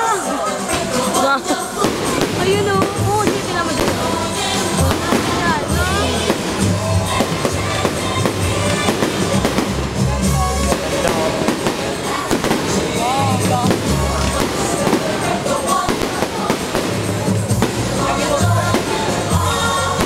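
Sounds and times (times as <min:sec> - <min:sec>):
fireworks bursting and crackling: 0:00.0 - 0:20.0
loud music with heavy bass: 0:00.0 - 0:20.0.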